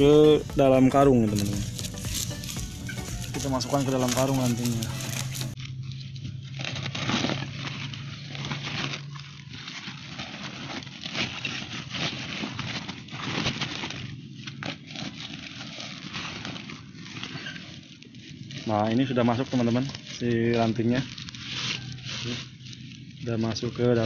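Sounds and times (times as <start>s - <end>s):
plastic sack rustling: 0.0s - 24.0s
sticks scraping against sack: 0.0s - 24.0s.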